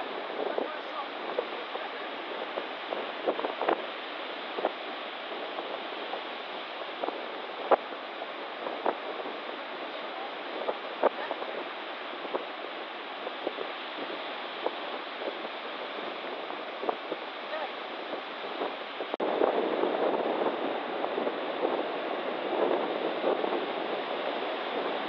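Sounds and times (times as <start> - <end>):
stormy sea surf: 0.0 - 25.0
wind rushing: 0.0 - 25.0.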